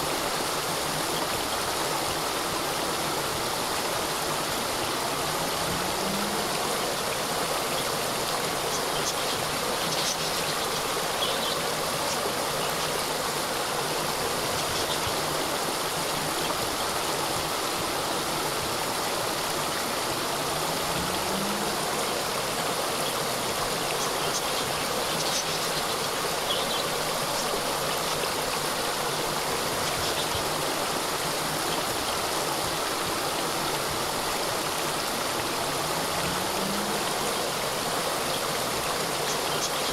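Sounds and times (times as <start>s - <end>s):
water cascade rushing: 0.0s - 39.9s.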